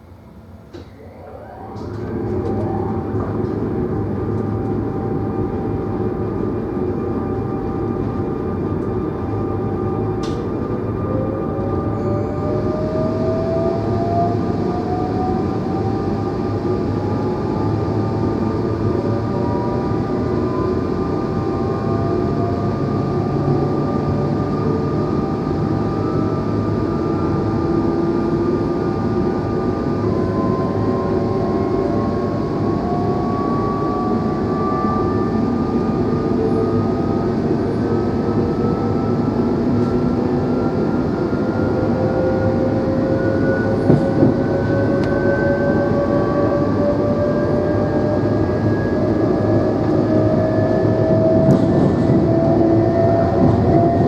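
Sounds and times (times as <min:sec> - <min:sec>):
train traction motors whining: 0:00.0 - 0:54.0
train running rumble: 0:01.8 - 0:54.0.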